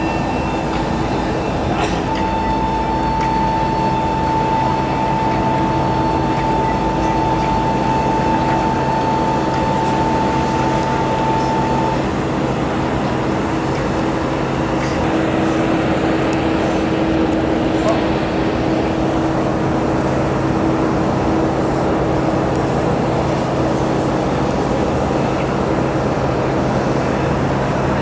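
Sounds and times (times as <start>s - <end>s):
aircraft engine running: 0.0s - 28.0s
high whine: 0.0s - 28.0s
low hum: 0.0s - 28.0s.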